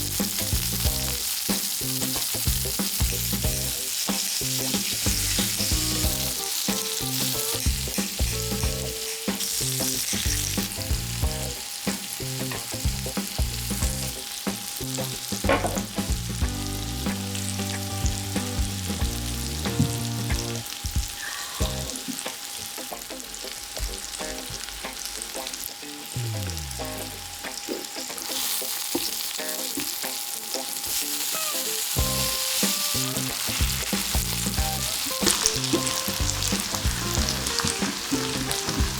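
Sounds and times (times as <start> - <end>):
meat sizzling on a hot grill: 0.0 - 38.9.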